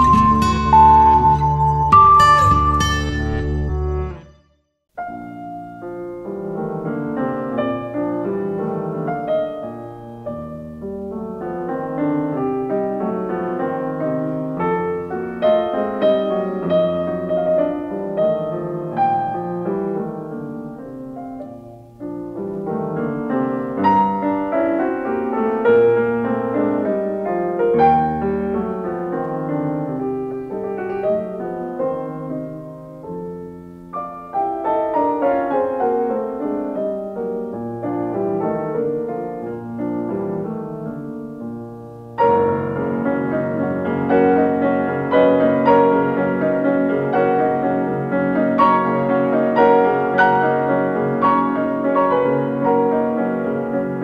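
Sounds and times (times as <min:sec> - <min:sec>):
gentle piano music: 0:00.0 - 0:04.3, 0:05.0 - 0:54.0.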